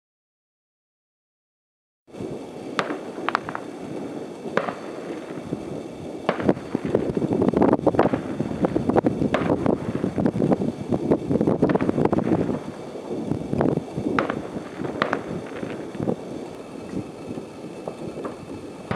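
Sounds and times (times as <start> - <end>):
distant fireworks bangs: 2.1 - 18.9
firecrackers crackling: 2.1 - 18.9.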